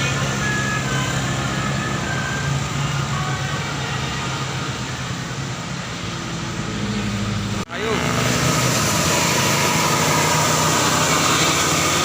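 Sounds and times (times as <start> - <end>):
diesel bus engine under load: 0.0 - 12.0.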